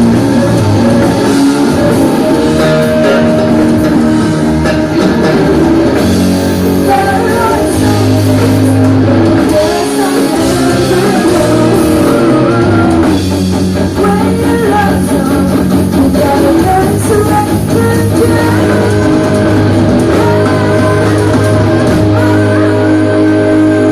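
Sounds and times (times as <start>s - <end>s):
bass guitar: 0.0s - 23.9s
drums: 0.0s - 23.9s
electric guitar: 0.0s - 23.9s.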